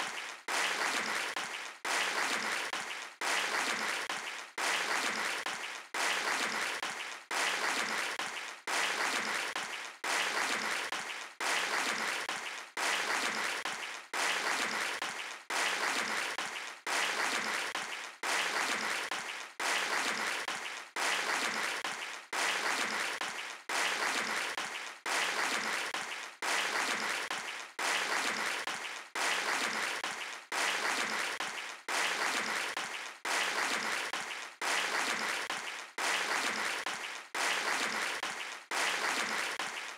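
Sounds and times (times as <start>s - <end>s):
audience applause: 0.0s - 39.9s.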